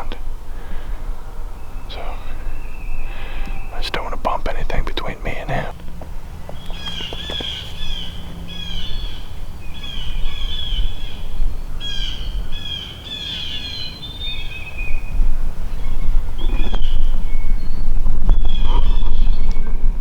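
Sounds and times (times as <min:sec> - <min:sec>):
low rumble: 0:00.0 - 0:12.9, 0:14.2 - 0:20.0
songbirds chirping: 0:00.0 - 0:20.0.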